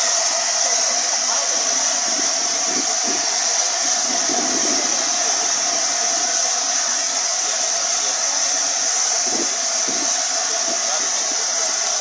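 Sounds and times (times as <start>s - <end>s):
hiss of escaping steam: 0.0s - 12.0s
quiet voices murmuring: 0.0s - 12.0s
steam locomotive moving slowly: 0.0s - 12.0s.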